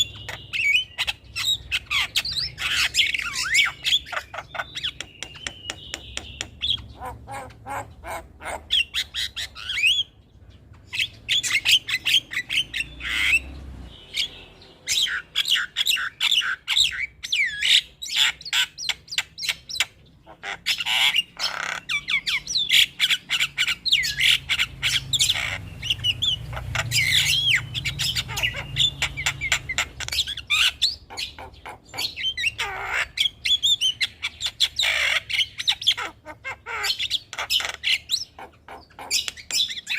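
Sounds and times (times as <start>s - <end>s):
birds chattering and squawking: 0.0s - 39.9s.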